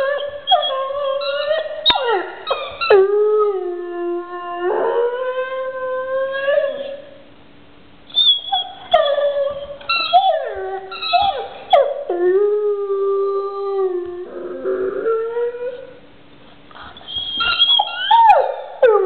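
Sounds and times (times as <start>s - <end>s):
dog howling and whining: 0.0s - 7.2s, 8.1s - 16.0s, 17.0s - 19.0s.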